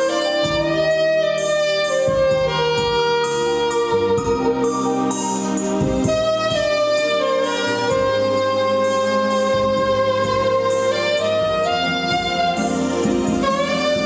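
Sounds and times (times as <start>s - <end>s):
jazz saxophone ballad: 0.0s - 14.0s
steady bass notes: 0.0s - 14.0s.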